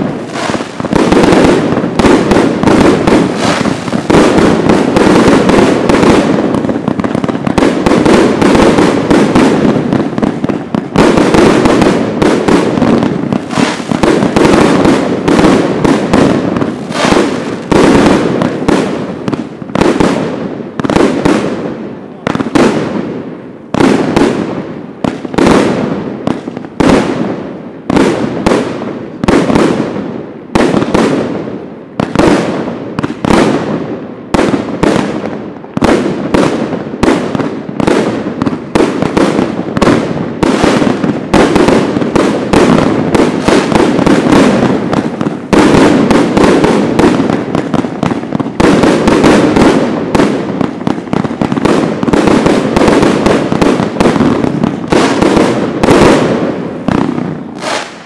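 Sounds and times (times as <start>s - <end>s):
firework shots and bursts: 0.0s - 58.0s.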